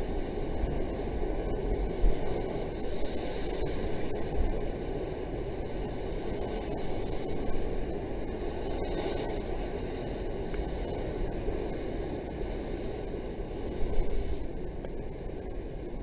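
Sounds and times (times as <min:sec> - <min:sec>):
hiss of spray: 0:00.0 - 0:16.0
wind noise: 0:00.0 - 0:16.0.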